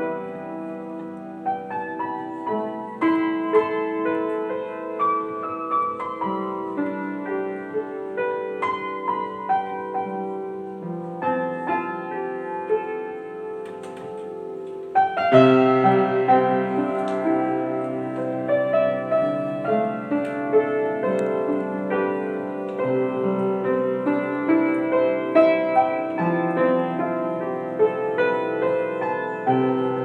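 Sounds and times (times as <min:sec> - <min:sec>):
solo piano melody: 0:00.0 - 0:30.0.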